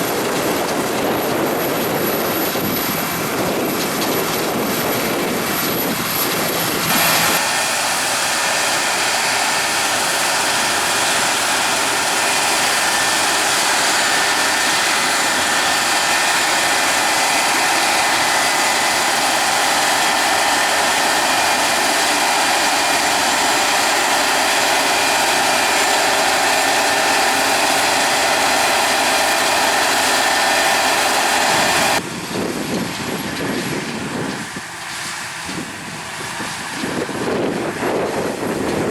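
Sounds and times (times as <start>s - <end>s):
harvest machinery engine drone: 0.0s - 38.9s.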